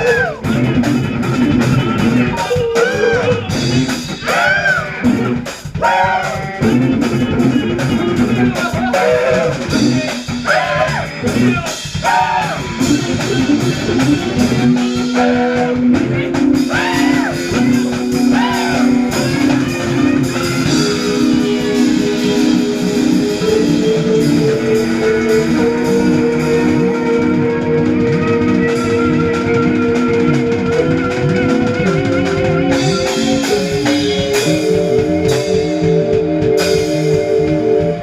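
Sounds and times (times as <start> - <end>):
drums: 0.0 - 38.0
electric guitar lead lines: 0.0 - 38.0
jazz fusion band playing: 0.0 - 38.0.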